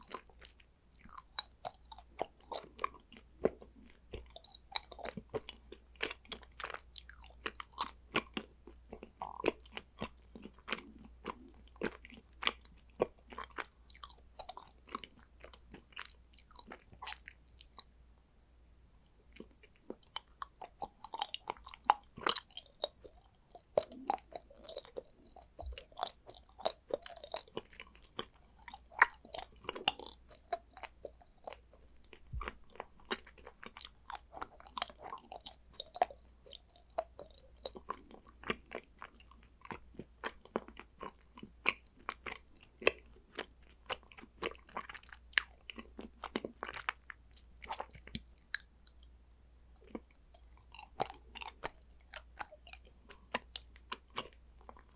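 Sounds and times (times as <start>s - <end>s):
chewing chocolate: 0.0s - 17.9s, 19.0s - 54.9s.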